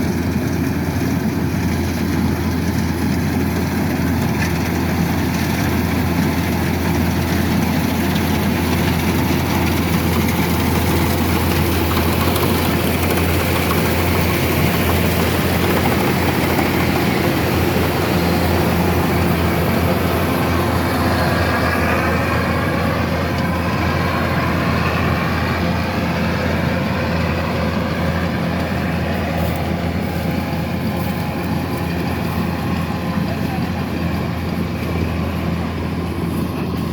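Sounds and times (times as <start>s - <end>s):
diesel engine droning: 0.0s - 36.9s.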